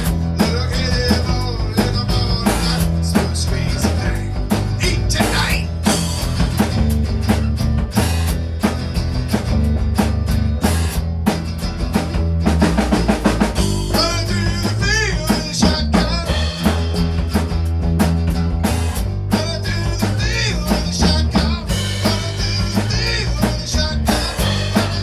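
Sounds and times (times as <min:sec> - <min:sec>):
drum kit playing: 0:00.0 - 0:25.0
recorded rock-pop song: 0:00.0 - 0:25.0.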